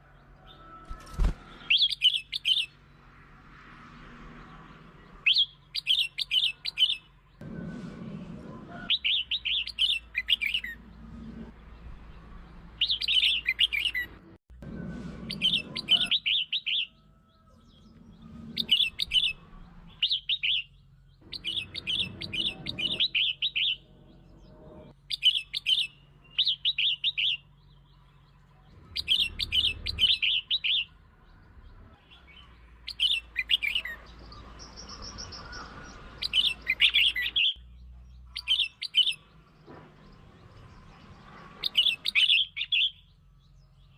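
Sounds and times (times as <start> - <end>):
bird singing warbled phrases: 1.0 - 3.0, 5.0 - 7.4, 8.9 - 11.1, 12.0 - 14.2, 15.3 - 43.9.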